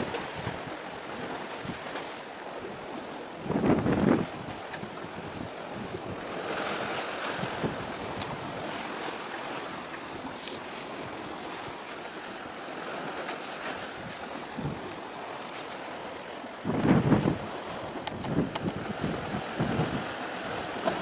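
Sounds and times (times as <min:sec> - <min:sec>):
wind buffeting microphone: 0:00.0 - 0:02.0, 0:02.6 - 0:21.0
sea waves washing: 0:00.0 - 0:21.0.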